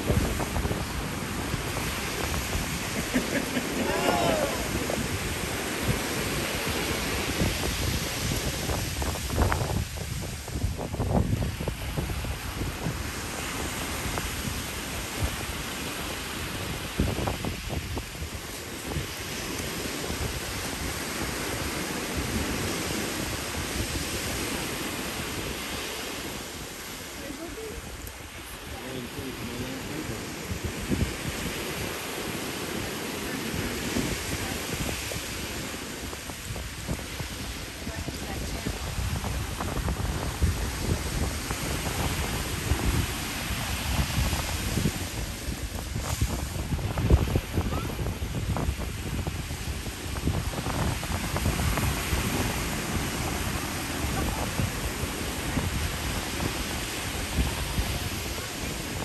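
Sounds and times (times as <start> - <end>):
ocean surf washing: 0.0 - 59.0
small waves breaking: 0.0 - 59.0
wind on microphone: 0.0 - 59.0.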